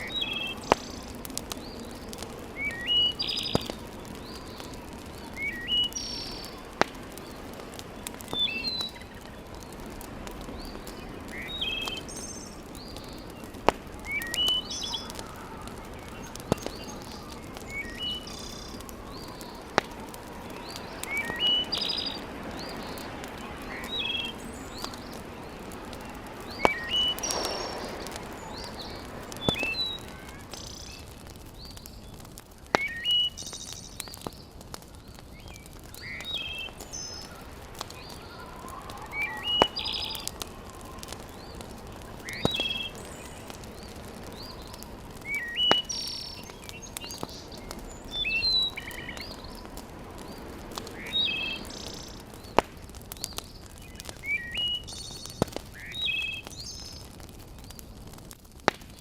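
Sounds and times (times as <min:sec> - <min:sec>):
steady low hiss: 0:00.0 - 0:53.7
birds chirping: 0:00.0 - 0:57.8
wood fire popping: 0:00.0 - 0:59.0.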